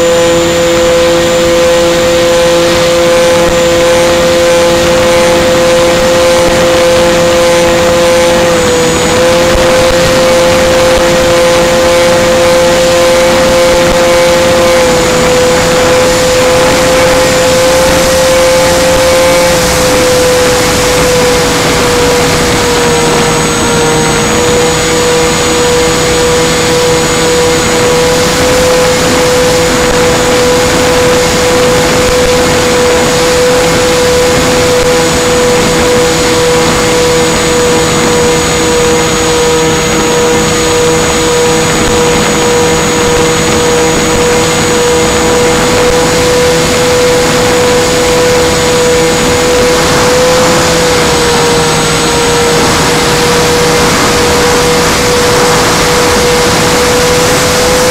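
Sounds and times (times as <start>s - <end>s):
electric motors whining: 0.0s - 57.9s
rushing air: 0.0s - 57.9s.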